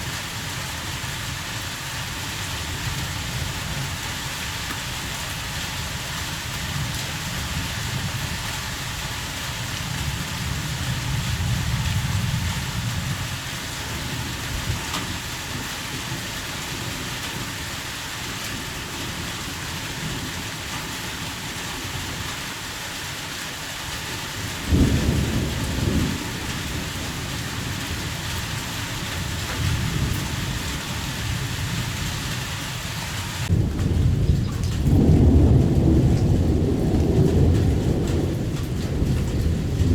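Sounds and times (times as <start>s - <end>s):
heavy rain hissing: 0.0s - 39.9s
thunder rumbling: 1.2s - 17.8s, 24.0s - 39.9s.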